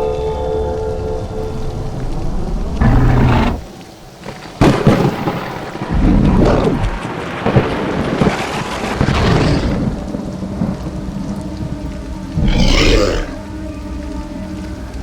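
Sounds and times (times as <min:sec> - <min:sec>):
rain: 0:00.0 - 0:15.0
thunder rumbling: 0:01.5 - 0:13.6.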